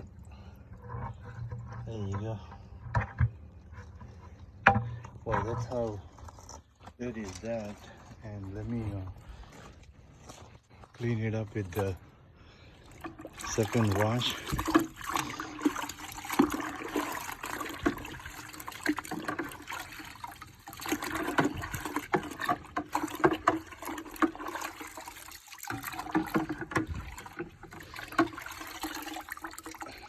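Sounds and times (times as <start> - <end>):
water sloshing in a bucket: 0.0 - 30.0.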